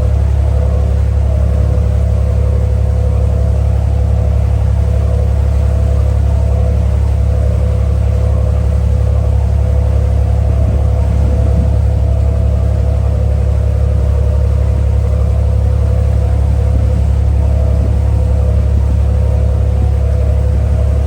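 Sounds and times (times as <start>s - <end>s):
ferry engine droning: 0.0s - 21.0s.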